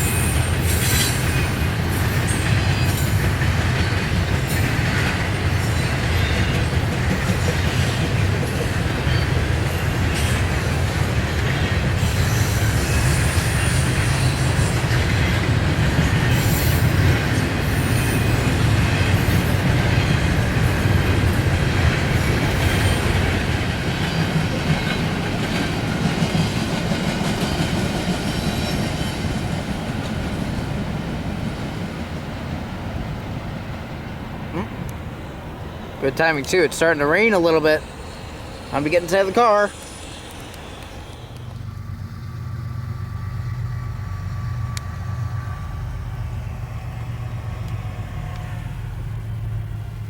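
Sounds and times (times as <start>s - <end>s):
freight train rumbling past: 0.0s - 50.0s.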